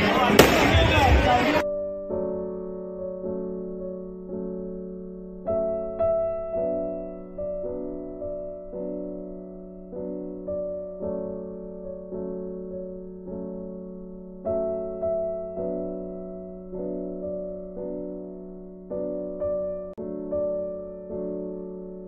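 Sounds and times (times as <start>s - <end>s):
slow piano music: 1.5s - 22.0s.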